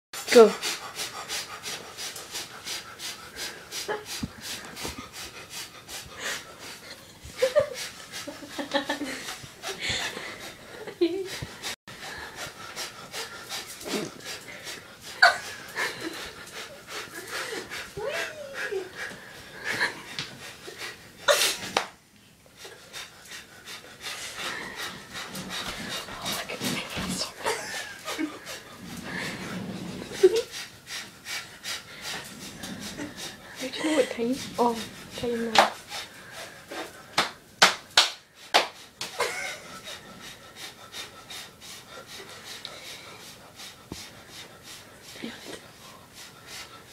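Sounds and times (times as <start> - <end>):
girl panting fast: 0.2 - 21.8, 22.6 - 29.4, 30.3 - 37.3, 38.2 - 46.9
person breathing hard and fast: 0.2 - 21.8, 22.5 - 37.4, 38.2 - 46.9.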